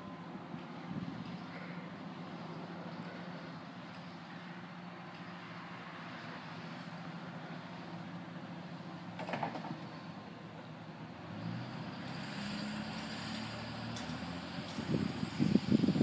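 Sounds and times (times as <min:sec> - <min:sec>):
street traffic: 0:00.0 - 0:16.0
van engine: 0:00.0 - 0:16.0.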